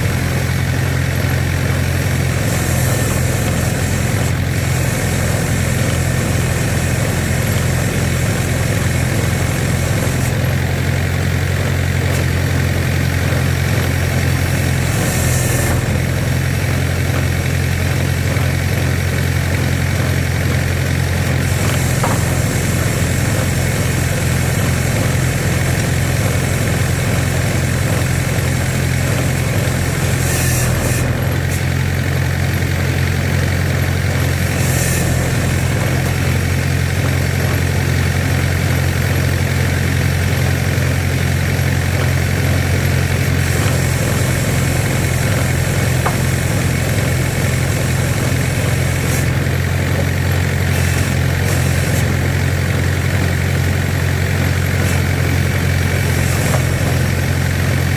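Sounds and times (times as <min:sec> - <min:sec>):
engine humming steadily: 0:00.0 - 0:57.9.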